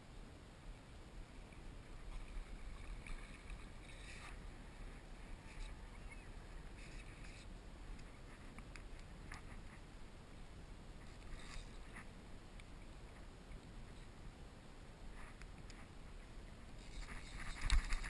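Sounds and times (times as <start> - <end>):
wind rumble on microphone: 1.2 - 18.0.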